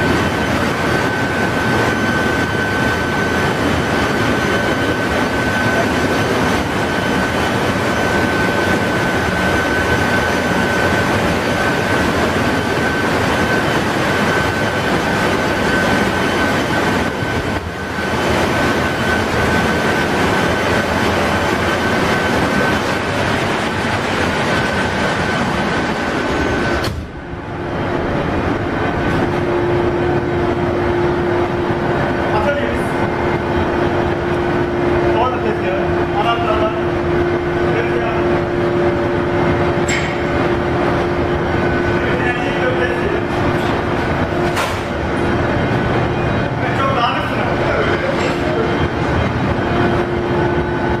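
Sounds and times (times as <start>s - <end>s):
constant high whine: 0.0s - 51.0s
engine room machinery running: 0.0s - 51.0s.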